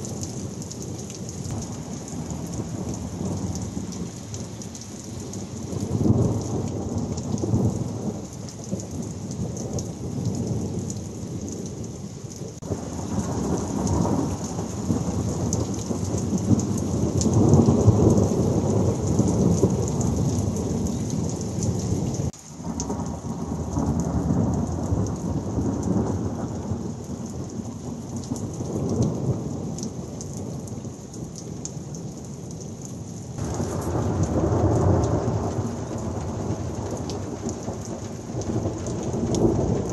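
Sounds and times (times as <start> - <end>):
heavy rain downpour: 0.0 - 39.9
rolling thunder: 5.2 - 32.2, 33.4 - 39.9.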